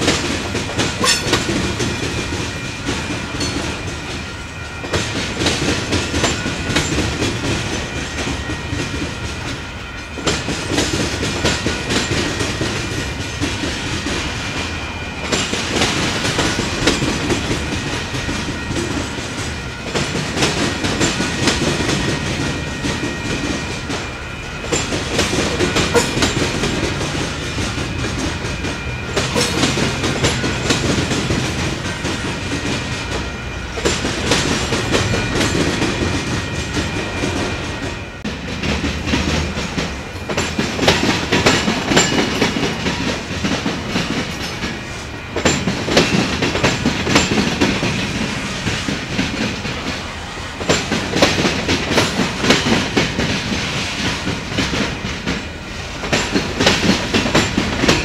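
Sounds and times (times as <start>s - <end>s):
train wheels clacking over rail joints: 0.0s - 58.0s.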